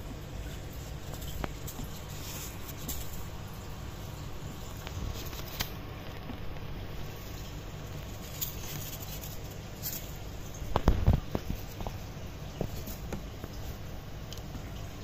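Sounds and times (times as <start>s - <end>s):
hamster scratching and pattering: 0.2s - 14.6s.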